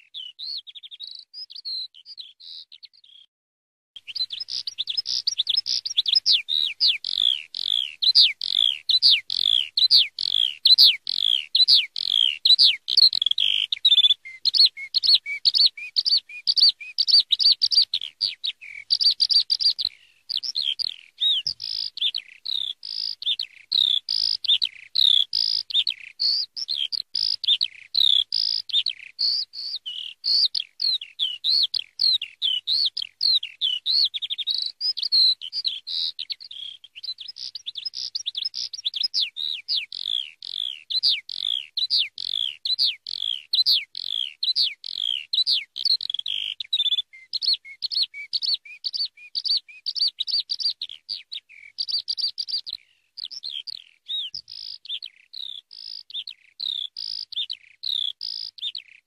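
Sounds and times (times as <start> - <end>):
skylark singing: 0.0 - 3.3, 4.0 - 59.0.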